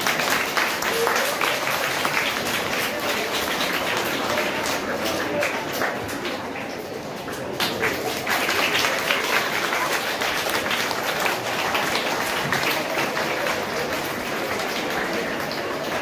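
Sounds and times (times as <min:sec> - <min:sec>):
audience applauding: 0:00.0 - 0:16.0
crowd voices: 0:00.0 - 0:16.0.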